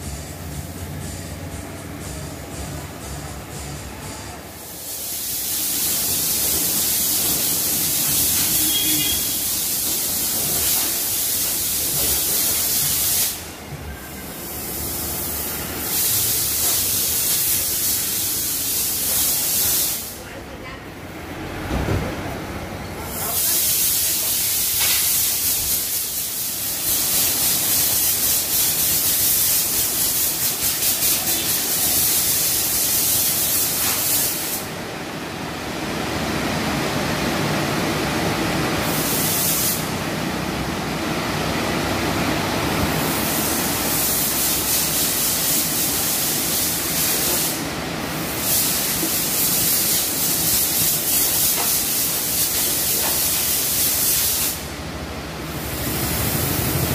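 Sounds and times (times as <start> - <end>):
car wash water spray hissing: 0.0 - 20.3, 23.0 - 56.9.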